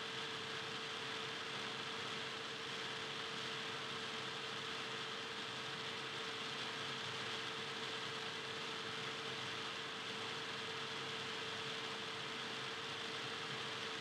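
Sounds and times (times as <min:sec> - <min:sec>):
constant mid-pitched hum: 0:00.0 - 0:14.0.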